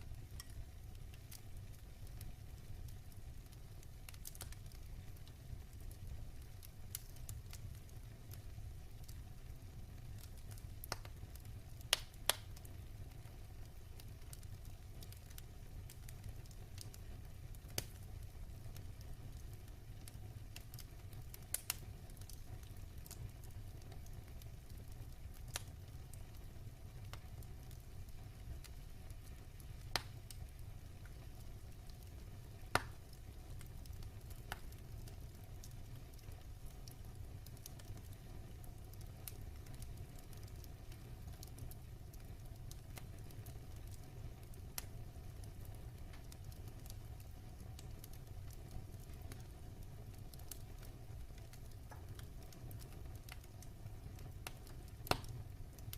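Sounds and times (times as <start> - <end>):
fire crackles and pops: 0.0 - 55.9
low rumble of flame: 0.0 - 55.9.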